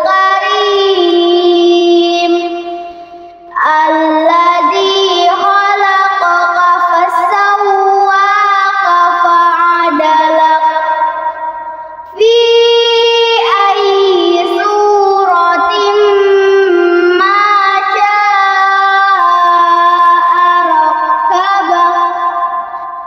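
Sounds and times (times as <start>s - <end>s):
girl chanting melodically: 0.0s - 23.0s.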